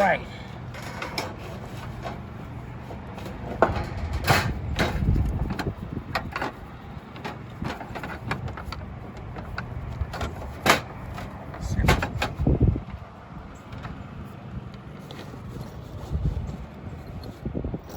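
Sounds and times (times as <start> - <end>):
low background hum: 0.0 - 17.9.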